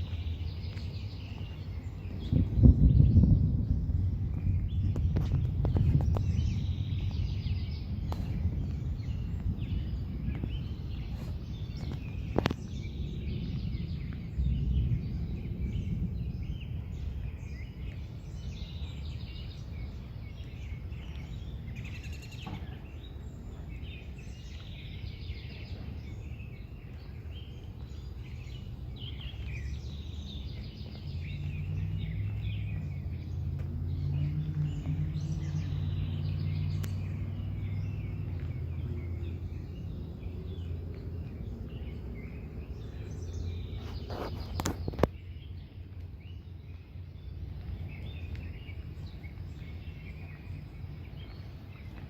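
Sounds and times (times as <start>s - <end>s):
birds chirping and singing: 0.0s - 52.0s
continuous low rumble: 0.0s - 52.0s.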